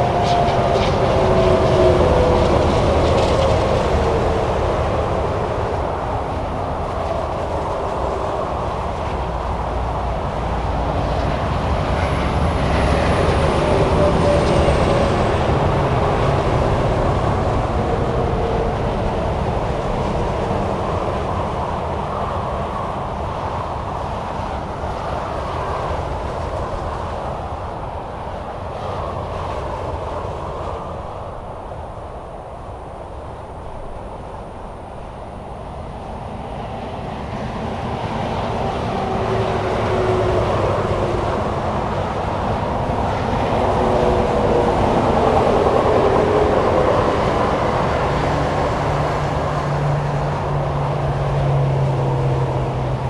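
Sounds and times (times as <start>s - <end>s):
highway traffic rushing: 0.0s - 53.0s.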